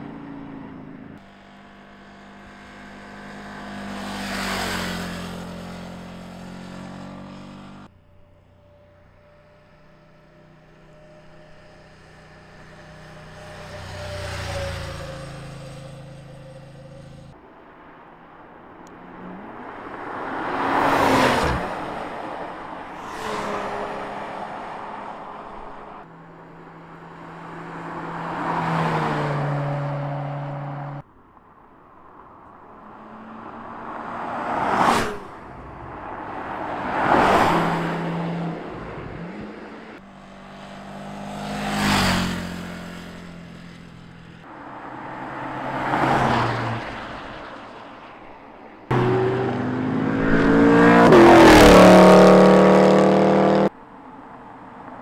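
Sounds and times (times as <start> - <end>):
cars passing by: 0.0 - 55.0.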